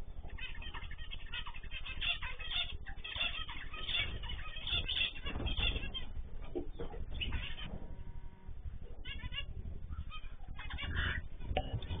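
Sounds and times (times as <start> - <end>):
birds chirping: 0.0 - 12.0
wings flapping: 0.2 - 8.0, 8.7 - 12.0.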